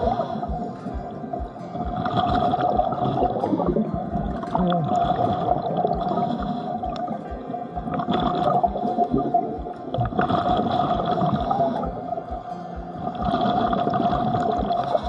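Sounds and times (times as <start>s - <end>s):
low thumps: 0.0s - 15.0s
muffled gurgling water: 0.0s - 15.0s
steady hum: 0.0s - 15.0s.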